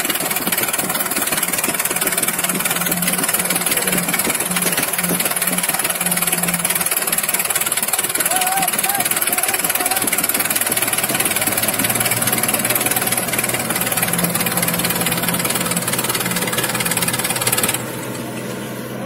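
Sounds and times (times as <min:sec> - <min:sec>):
tractor diesel engines clattering: 0:00.0 - 0:19.0.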